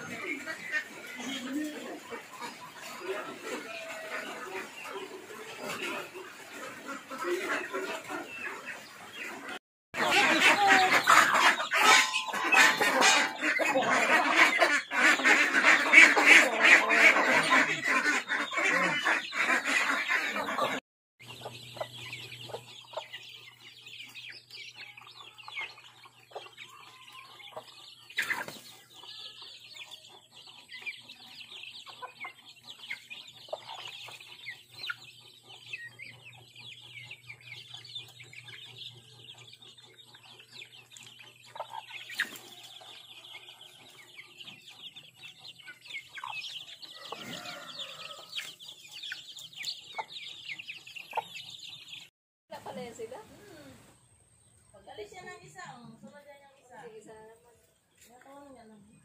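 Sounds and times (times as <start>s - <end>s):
chickens and ducks clucking: 0.0s - 59.0s
chicks peeping: 0.0s - 59.0s.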